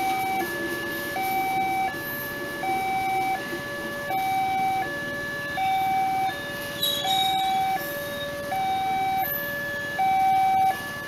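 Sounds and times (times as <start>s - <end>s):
two-tone crossing alarm: 0.0s - 11.0s.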